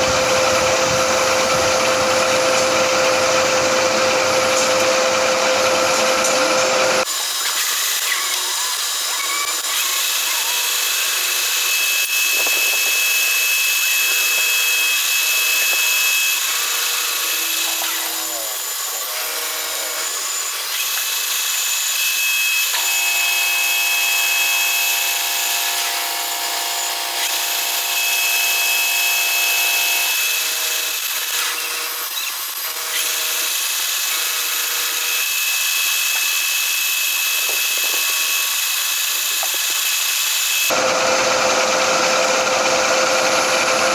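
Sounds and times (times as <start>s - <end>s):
metal lathe cutting steel: 0.0s - 43.9s.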